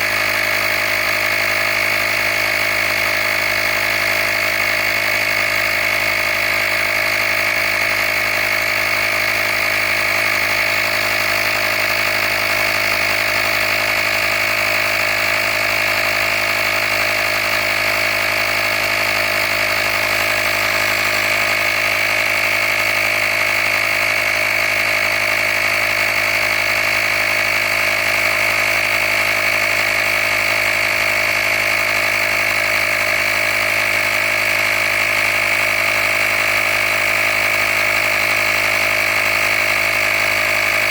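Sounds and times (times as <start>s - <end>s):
air compressor running: 0.0s - 40.9s.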